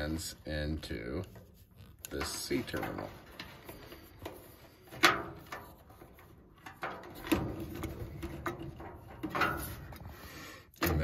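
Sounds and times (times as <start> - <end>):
wires rustling: 0.0 - 11.0.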